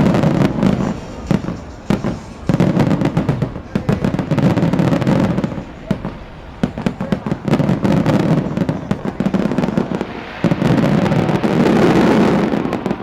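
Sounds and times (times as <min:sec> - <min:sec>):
firework shell bursts: 0:00.0 - 0:13.0
low rumble of fireworks: 0:00.0 - 0:13.0.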